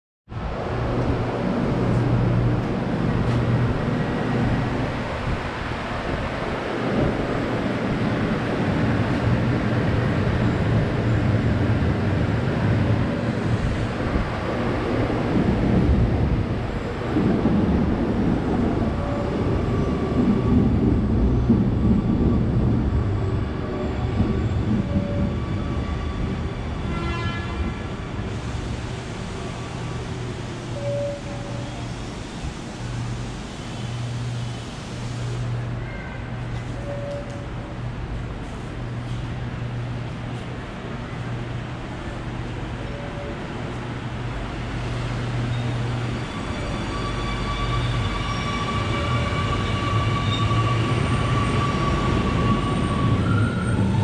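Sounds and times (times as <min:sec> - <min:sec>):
metro train rumbling: 0:00.3 - 0:54.0.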